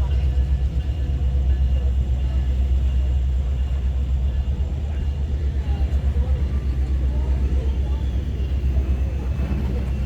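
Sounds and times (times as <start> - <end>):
diesel train rumbling: 0.0 - 10.0.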